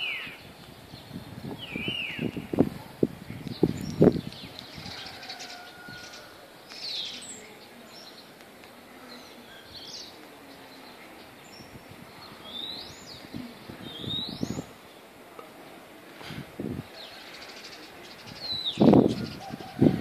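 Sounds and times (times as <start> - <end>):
faint steady hiss: 0.0 - 19.4.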